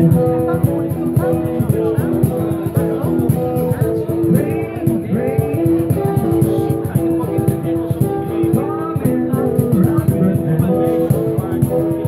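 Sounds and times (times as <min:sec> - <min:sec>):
acoustic guitars strumming: 0:00.0 - 0:12.0
cajon beat: 0:00.0 - 0:12.0
man singing: 0:00.0 - 0:12.0.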